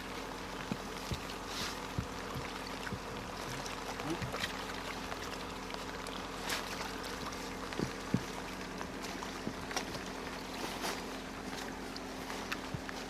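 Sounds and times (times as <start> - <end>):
faint steady hum: 0.0 - 13.0
stream water running: 0.0 - 13.0.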